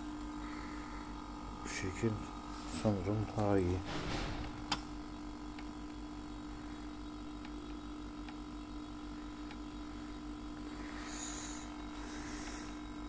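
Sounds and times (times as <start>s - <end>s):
dryer compressor humming: 0.0s - 13.0s.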